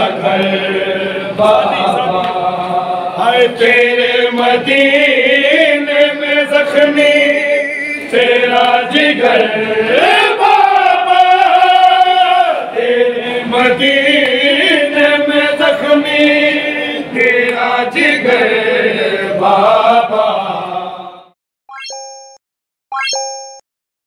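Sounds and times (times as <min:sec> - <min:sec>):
men chanting in unison: 0:00.0 - 0:21.3.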